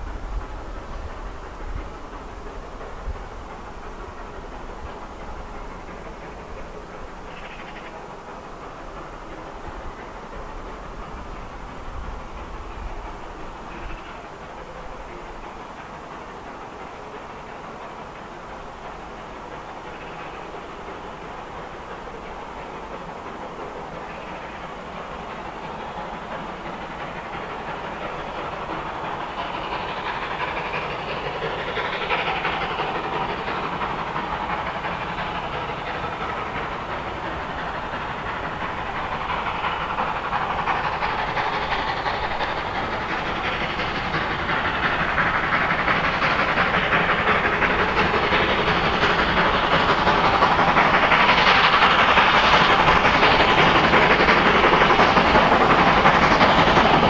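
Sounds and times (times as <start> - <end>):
steam locomotive exhaust: 0.0 - 57.0.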